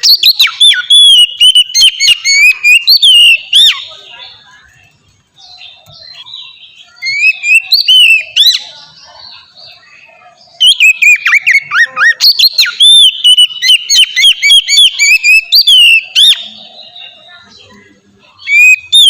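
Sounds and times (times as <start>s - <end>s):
bird singing whistles and chirps: 0.0s - 4.5s, 5.4s - 19.0s.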